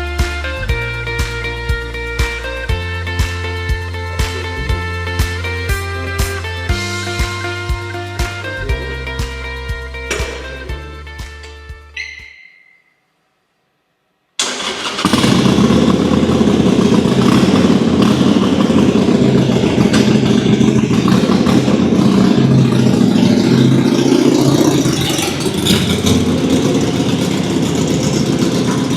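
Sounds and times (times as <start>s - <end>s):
motorcycle engine starting and idling: 0.0s - 12.2s, 14.4s - 28.9s.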